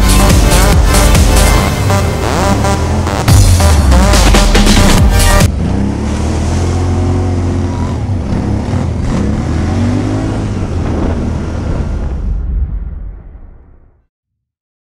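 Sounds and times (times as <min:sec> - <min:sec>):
quad engine revving: 0:00.0 - 0:12.2.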